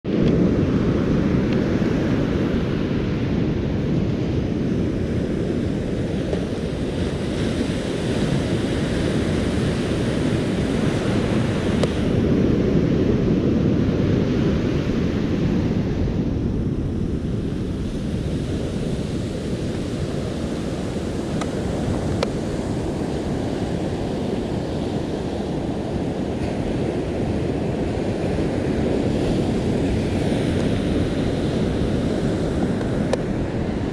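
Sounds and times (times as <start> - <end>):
wind rumble on microphone: 0.0 - 33.9
ocean surf breaking on beach: 0.1 - 33.9.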